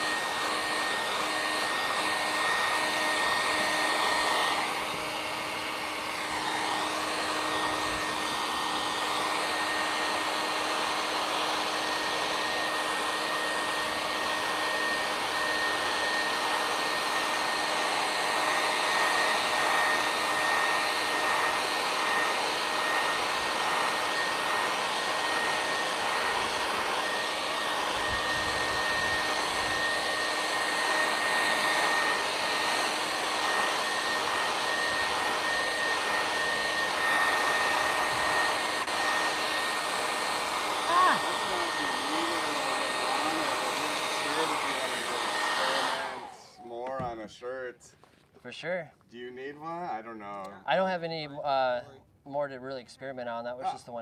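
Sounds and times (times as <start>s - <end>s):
hair dryer running: 0.0s - 47.2s.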